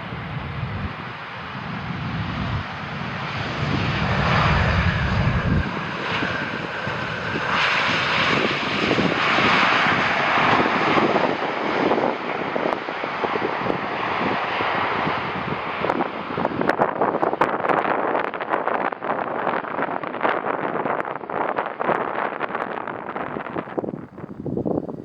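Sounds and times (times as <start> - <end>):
jet airliner flying low: 0.0 - 25.0.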